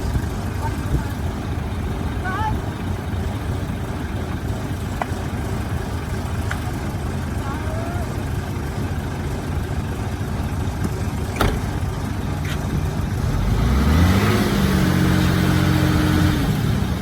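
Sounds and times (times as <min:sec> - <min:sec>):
heavy diesel engine revving: 0:00.0 - 0:17.0.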